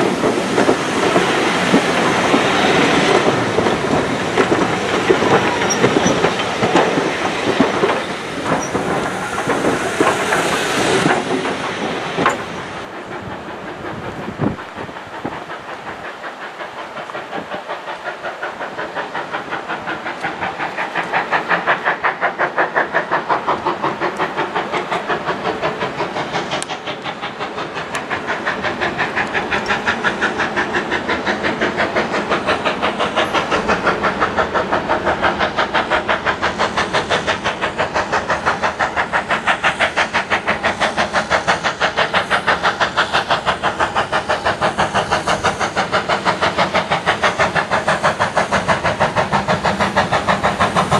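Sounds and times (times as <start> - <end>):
steam locomotive exhaust beats: 0.0 - 50.9.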